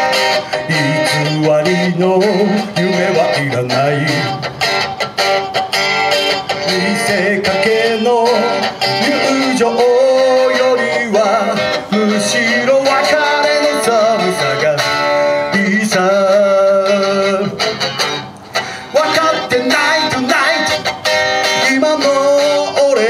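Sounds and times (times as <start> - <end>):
man singing with vibrato: 0.0 - 5.0, 6.0 - 23.0
amplified electric guitar: 0.0 - 23.0.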